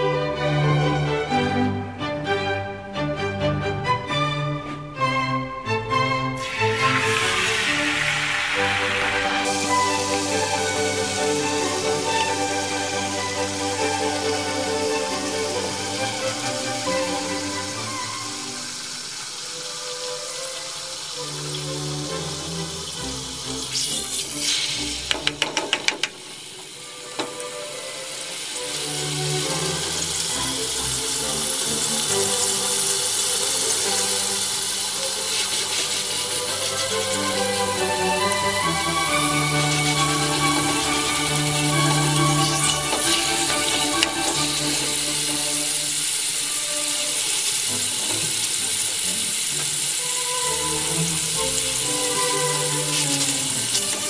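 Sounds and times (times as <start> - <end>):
background music: 0.0 - 54.0
patty sizzling in frying pan: 6.4 - 54.0.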